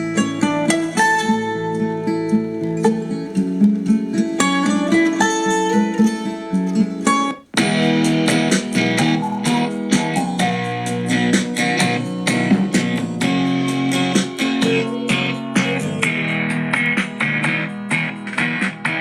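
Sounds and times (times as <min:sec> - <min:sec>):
guitar music through speaker: 0:00.0 - 0:19.0.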